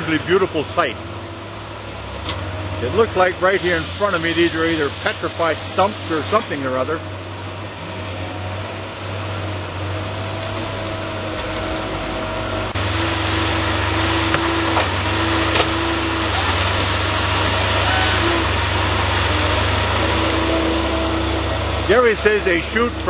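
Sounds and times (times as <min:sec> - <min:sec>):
forestry machine running: 0:00.0 - 0:23.0.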